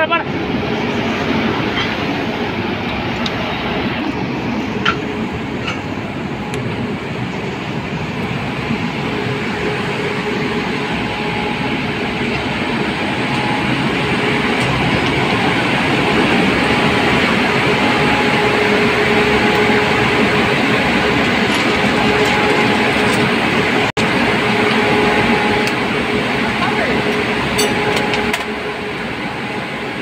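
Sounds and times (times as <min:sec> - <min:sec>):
train machinery rumble and hiss: 0:00.0 - 0:30.0.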